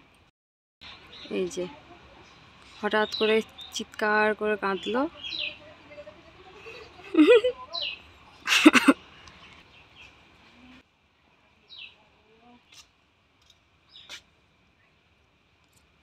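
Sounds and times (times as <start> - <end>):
small birds chirping: 0.8 - 10.8, 11.6 - 15.1.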